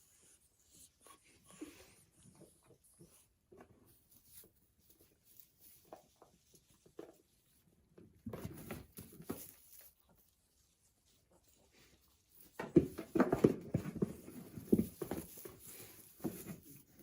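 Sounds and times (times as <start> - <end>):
faint rustling and scuffing: 0.1 - 17.0.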